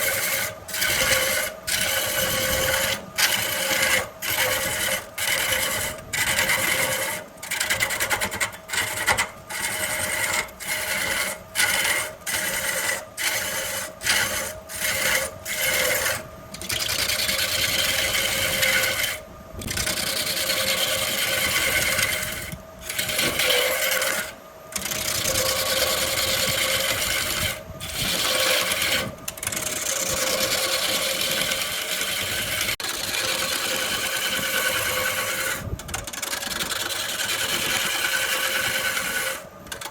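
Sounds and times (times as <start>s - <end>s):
wood lathe whirring: 0.0s - 39.9s.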